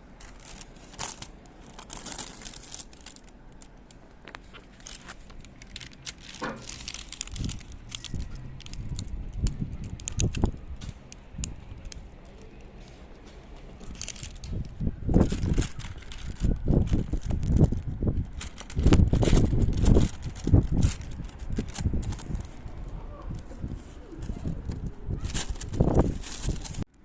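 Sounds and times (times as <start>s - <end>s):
crinkling and rustling: 0.0s - 27.0s.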